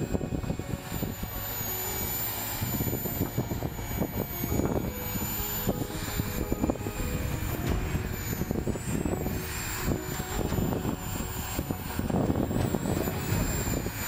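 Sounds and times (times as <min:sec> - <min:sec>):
electric ducted fans whining: 0:00.0 - 0:14.0.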